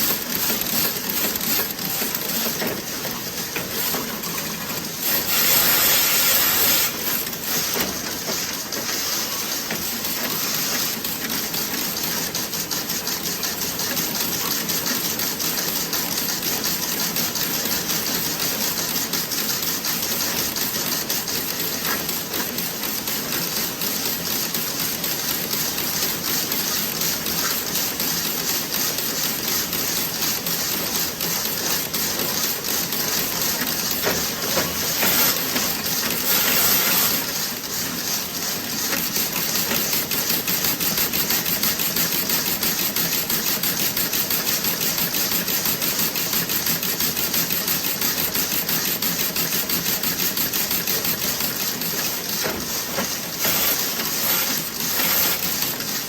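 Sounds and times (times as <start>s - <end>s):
knitting machine clattering: 0.0s - 19.3s, 19.9s - 56.0s.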